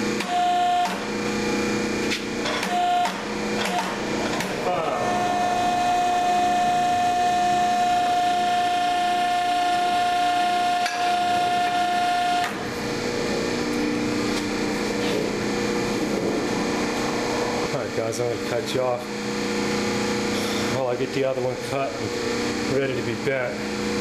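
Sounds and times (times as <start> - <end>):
hydraulic pump whining: 0.0 - 24.0
machine humming: 0.0 - 24.0.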